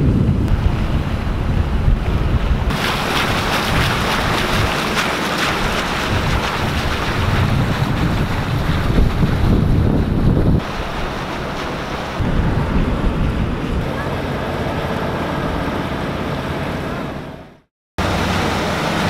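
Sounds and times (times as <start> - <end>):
wind buffeting microphone: 0.0 - 17.3
water rushing past bow: 0.0 - 19.0.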